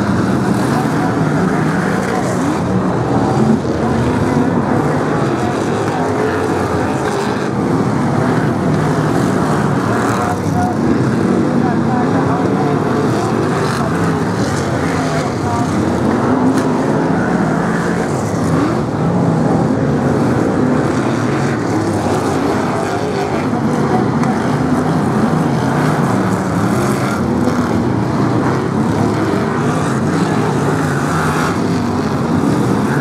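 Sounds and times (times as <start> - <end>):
stock car engines racing: 0.0 - 33.0.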